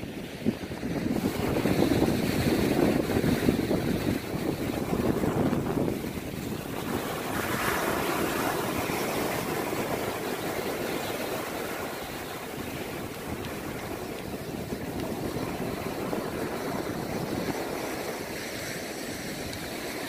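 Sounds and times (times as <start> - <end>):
small waves washing up a beach: 0.0 - 20.0.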